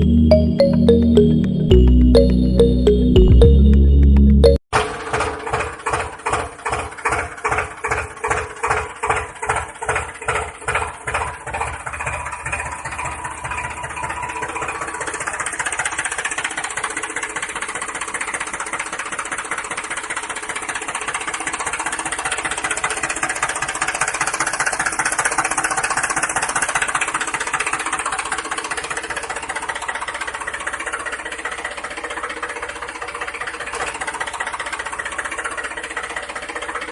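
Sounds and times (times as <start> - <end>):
tractor engine running: 3.5 - 36.9.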